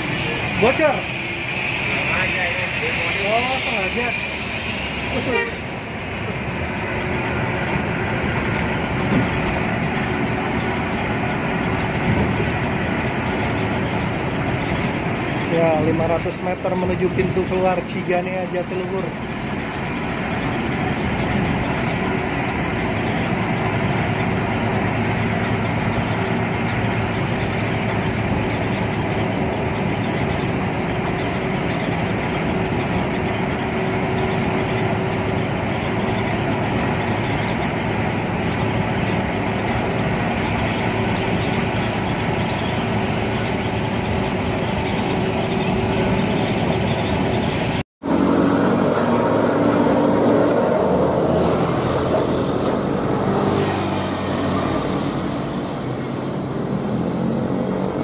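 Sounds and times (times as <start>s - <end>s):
coach engine drone: 0.0s - 58.0s
road rumble: 0.0s - 58.0s.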